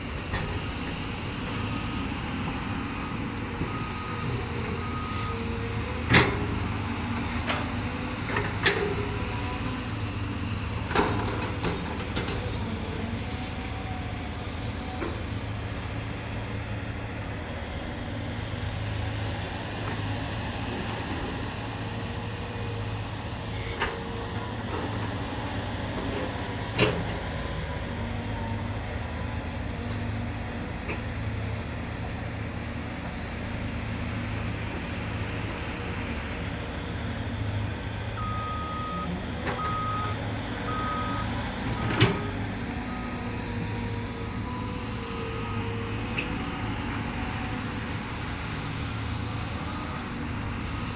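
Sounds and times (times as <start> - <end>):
excavator diesel engines running: 0.0 - 50.9.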